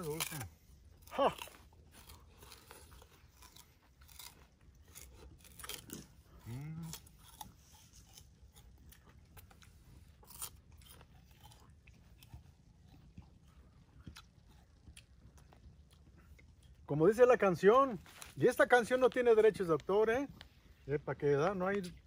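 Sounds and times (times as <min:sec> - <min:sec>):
chewing sugar cane: 0:00.0 - 0:22.0.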